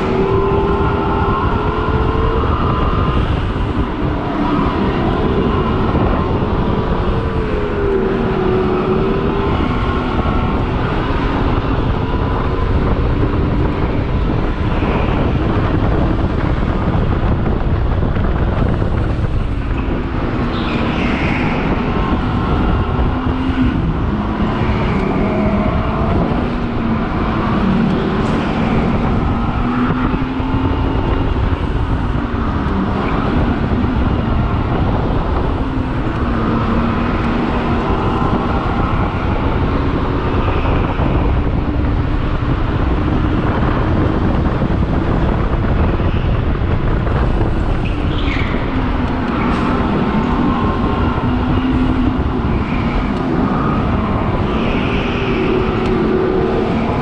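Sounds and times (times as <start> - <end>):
low rushing noise: 0.0 - 57.0.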